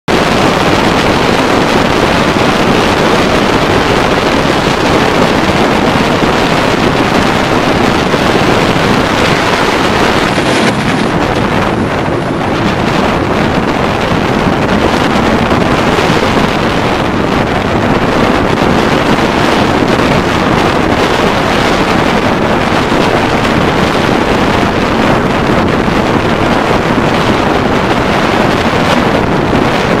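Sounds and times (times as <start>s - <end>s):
choppy water splashing: 0.1s - 30.0s
wind buffeting microphone: 0.1s - 30.0s.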